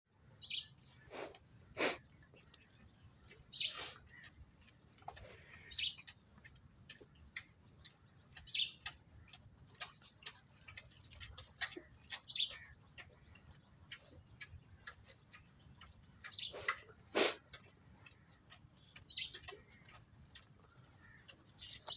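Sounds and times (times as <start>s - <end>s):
birds chirping: 0.4s - 21.9s.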